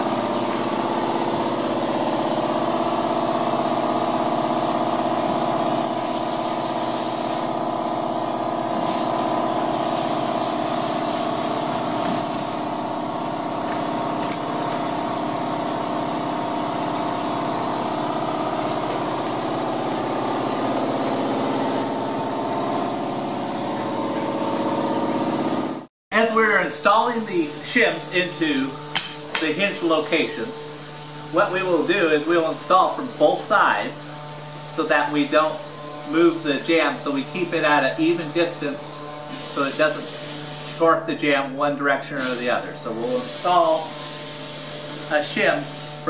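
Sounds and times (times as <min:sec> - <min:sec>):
steady machine drone: 0:00.0 - 0:06.8, 0:07.4 - 0:39.4.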